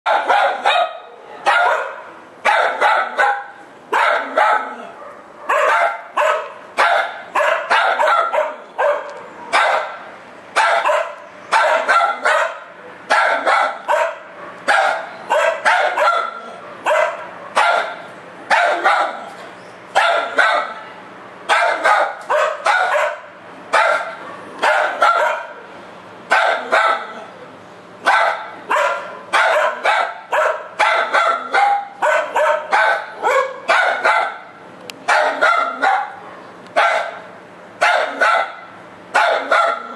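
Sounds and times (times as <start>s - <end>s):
small dog barking: 0.1s - 10.0s, 10.6s - 19.4s, 20.0s - 20.9s, 21.5s - 25.7s, 26.3s - 27.3s, 28.0s - 39.9s.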